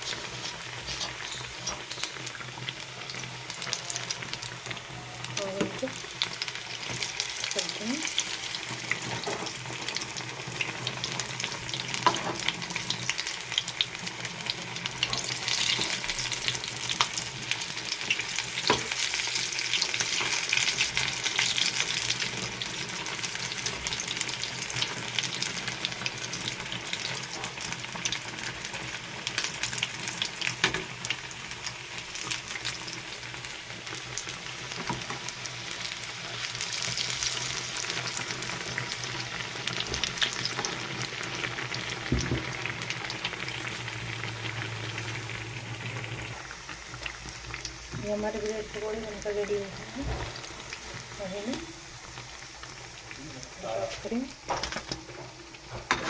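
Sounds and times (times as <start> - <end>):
deep-frying sizzle and crackling: 0.0 - 56.0.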